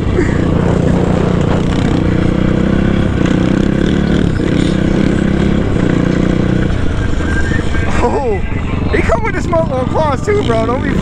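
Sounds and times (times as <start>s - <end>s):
motorbike engine at high revs: 0.0s - 8.1s, 9.5s - 11.0s.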